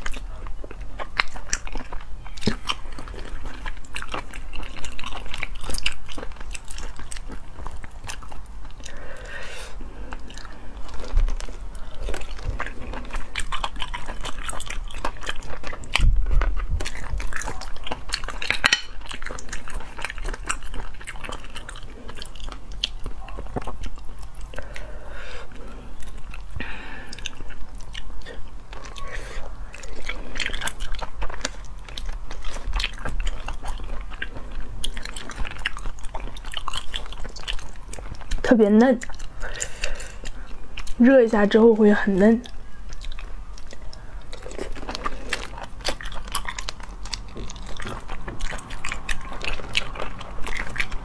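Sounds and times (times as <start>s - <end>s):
person chewing: 0.0s - 41.2s, 42.2s - 51.0s.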